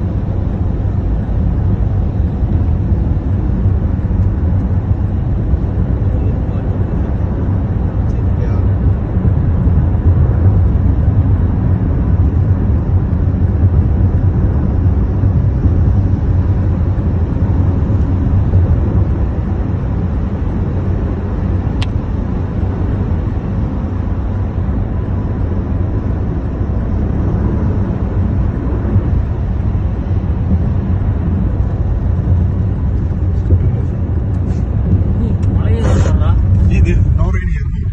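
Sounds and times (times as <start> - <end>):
car tyre and engine rumble: 0.0 - 37.9.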